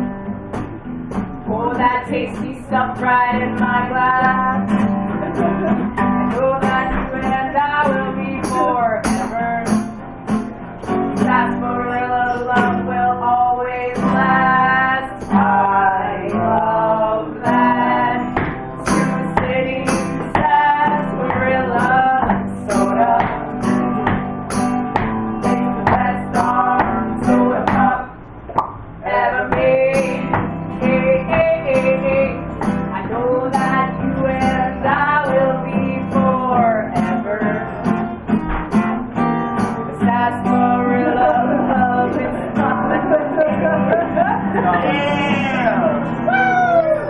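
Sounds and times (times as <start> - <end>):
acoustic guitar: 0.0 - 47.0
person singing: 1.5 - 10.0, 10.9 - 24.8, 25.4 - 28.1, 29.0 - 38.0, 39.6 - 47.0.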